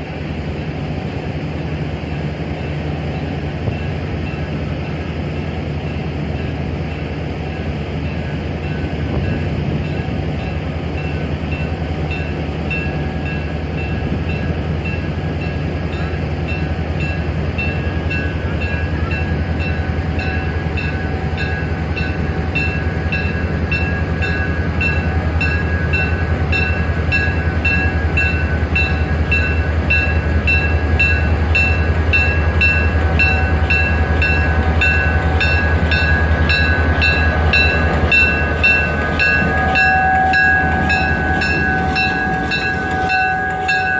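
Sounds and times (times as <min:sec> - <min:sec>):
train car rolling on track: 0:00.0 - 0:43.9.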